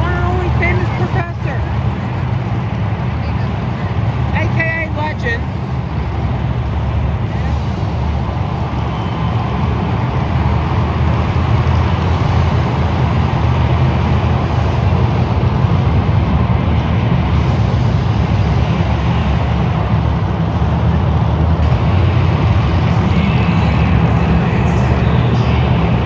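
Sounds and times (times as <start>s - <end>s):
monster truck engines running: 0.0s - 26.0s.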